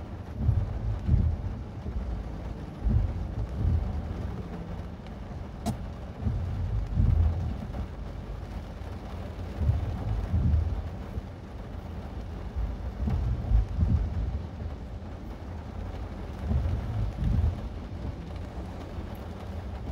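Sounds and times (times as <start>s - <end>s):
road and tyre noise: 0.0s - 19.9s.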